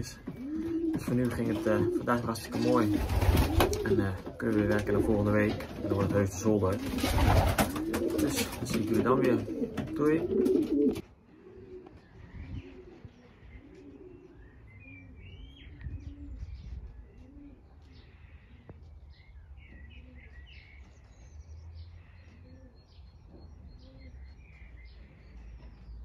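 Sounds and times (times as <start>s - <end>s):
pigeons cooing: 0.0s - 21.0s, 21.8s - 26.0s
small birds chirping: 0.0s - 26.0s.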